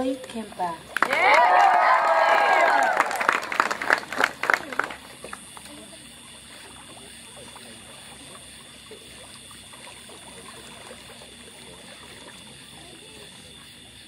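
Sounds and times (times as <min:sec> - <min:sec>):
pool water lapping and trickling: 0:00.0 - 0:14.0.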